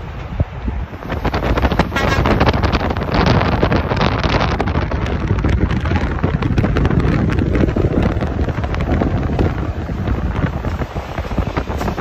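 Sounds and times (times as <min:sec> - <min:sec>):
trucks rumbling past: 0:00.0 - 0:12.0
wind buffeting microphone: 0:00.0 - 0:12.0.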